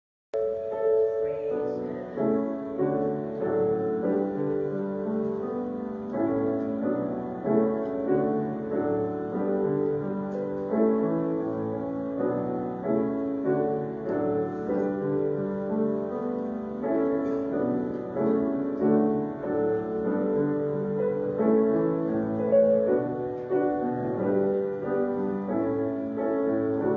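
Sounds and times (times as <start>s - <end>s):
piano playing chords: 0.3s - 26.9s.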